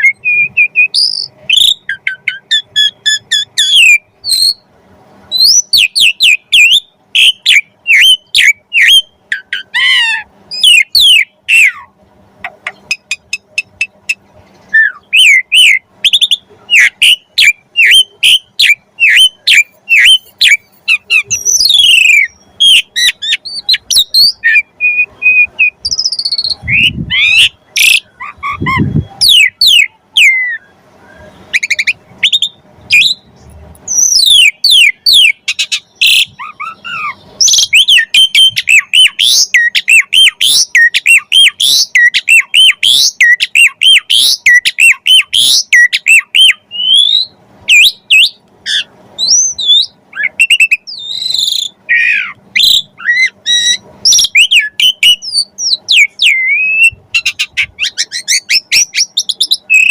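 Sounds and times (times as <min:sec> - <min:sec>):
starling singing: 0:00.0 - 0:04.7, 0:05.3 - 0:59.9.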